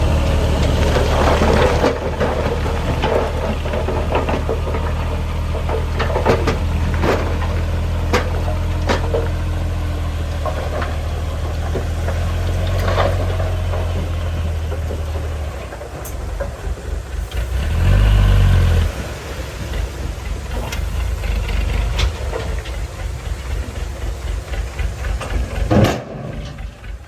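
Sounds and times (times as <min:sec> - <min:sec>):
heavy diesel engine running: 0:00.0 - 0:27.0
sharp knocks and clanks: 0:00.6 - 0:17.3, 0:20.2 - 0:27.0.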